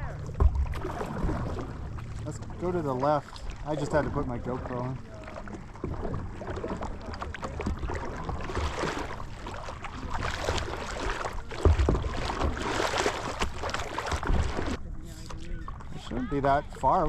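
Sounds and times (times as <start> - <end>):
water splashing from paddling: 0.0 - 17.0.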